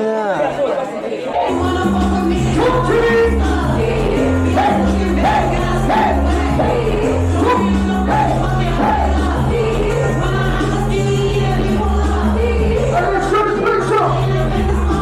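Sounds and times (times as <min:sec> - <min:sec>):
sung vocal melody: 0:01.3 - 0:15.0
steady bass line: 0:01.5 - 0:15.0.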